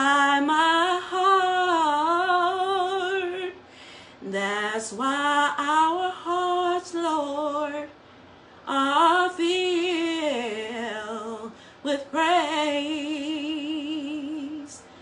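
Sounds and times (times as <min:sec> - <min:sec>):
woman singing unaccompanied: 0:00.0 - 0:08.0, 0:08.6 - 0:15.0.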